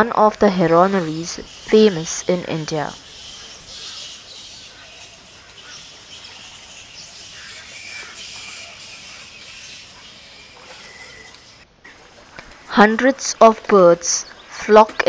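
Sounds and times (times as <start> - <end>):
hiss of background bird chatter: 0.0 - 15.0
birds chirping and calling: 0.1 - 12.6.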